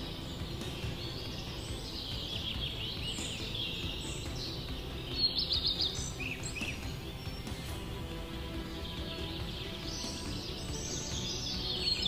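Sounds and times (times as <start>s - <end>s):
bird trill: 0.0s - 12.0s
birds chirping and singing: 0.0s - 12.0s.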